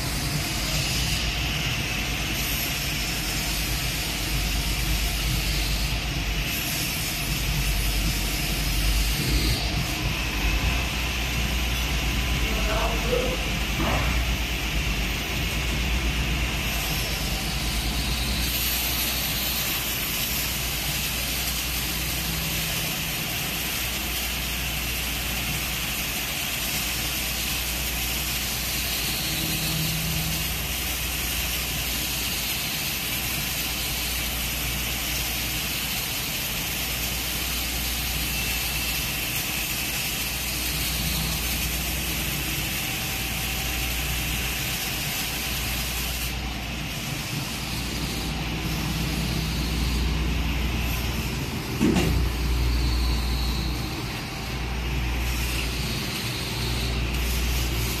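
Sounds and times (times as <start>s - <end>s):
arc welding hiss: 0.0s - 58.0s.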